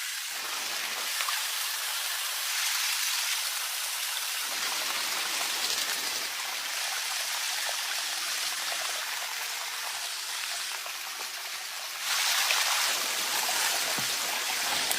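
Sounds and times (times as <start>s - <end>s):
rain falling: 0.2s - 14.9s.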